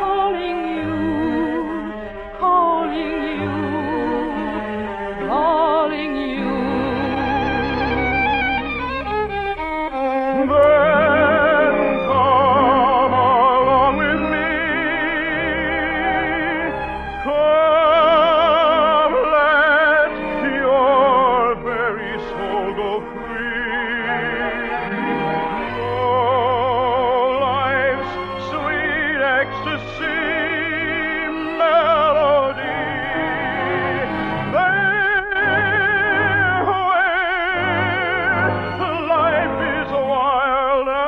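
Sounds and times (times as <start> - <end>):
light orchestral accompaniment: 0.0 - 41.0
operatic singing: 0.0 - 41.0.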